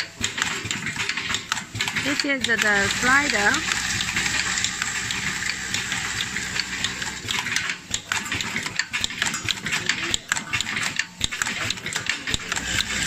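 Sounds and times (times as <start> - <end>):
mechanical clicking and clacking: 0.0 - 13.0.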